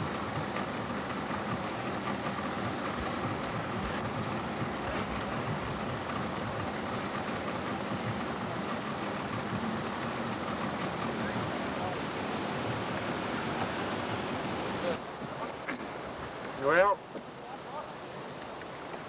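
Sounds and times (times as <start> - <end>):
river water rushing over dam: 0.0 - 19.0.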